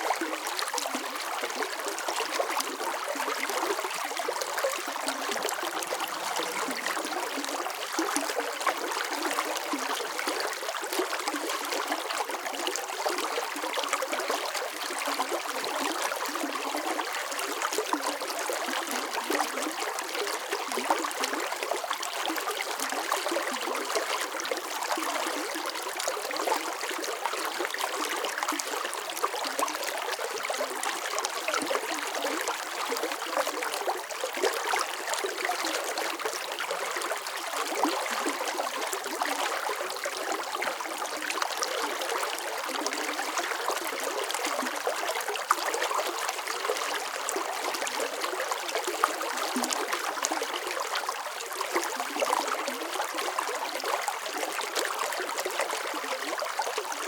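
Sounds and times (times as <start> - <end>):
stream running over stones: 0.0 - 57.0.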